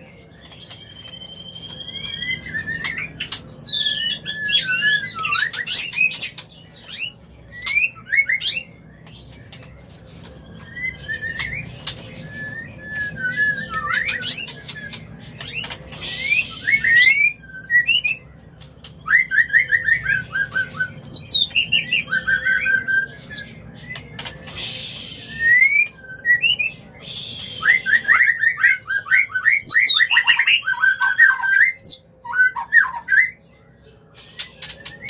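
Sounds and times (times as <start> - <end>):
bird whistles and trills: 0.4 - 35.0.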